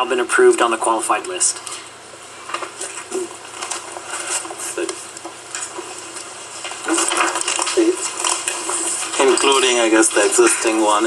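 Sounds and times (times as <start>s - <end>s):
papers rustling and shuffling: 1.5s - 11.0s.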